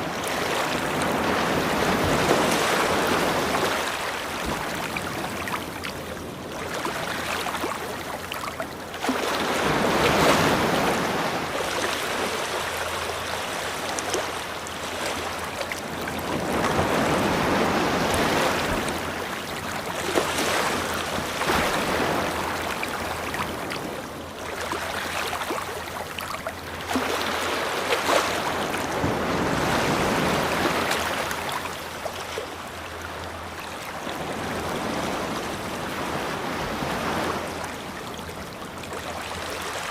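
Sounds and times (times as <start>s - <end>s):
large waves breaking: 0.0s - 39.9s
ocean waves washing onto shore: 0.0s - 39.9s.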